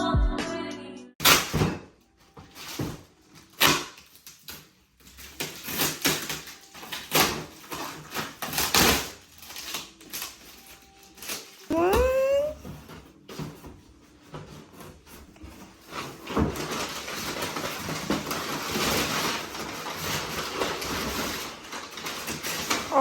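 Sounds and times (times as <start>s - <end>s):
objects being handled: 1.2s - 23.0s.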